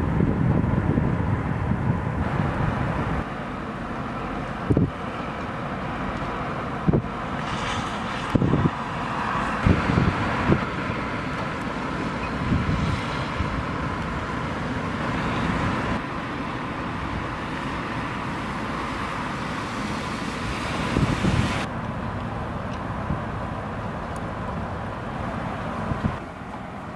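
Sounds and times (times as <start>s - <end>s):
wind buffeting microphone: 0.0s - 3.4s, 4.5s - 5.2s, 6.0s - 16.0s, 16.8s - 26.3s
traffic hum: 0.0s - 26.9s.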